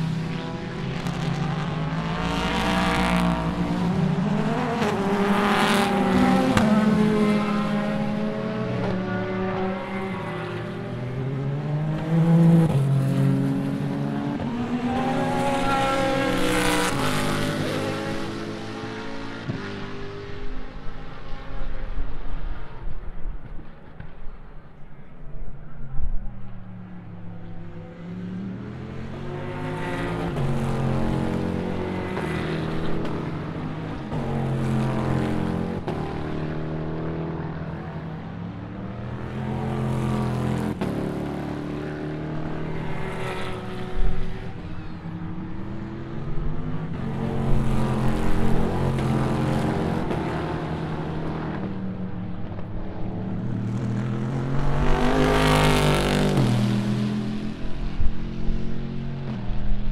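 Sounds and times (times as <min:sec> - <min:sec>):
race cars passing by: 0:00.0 - 0:59.9.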